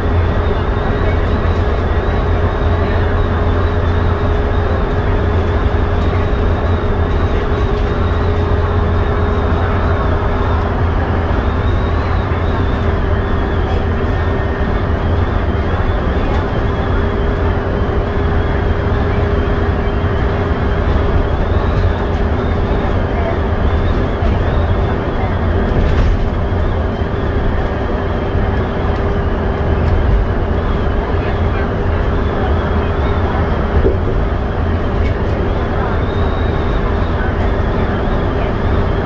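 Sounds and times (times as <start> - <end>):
bus engine and road drone: 0.0 - 39.0
constant whine: 0.0 - 39.0.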